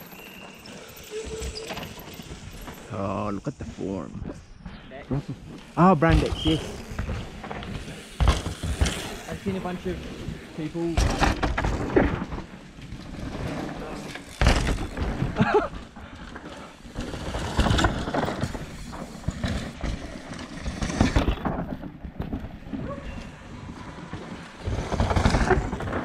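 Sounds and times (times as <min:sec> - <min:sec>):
bike tyres tearing through dirt: 0:00.0 - 0:03.3, 0:05.3 - 0:26.0.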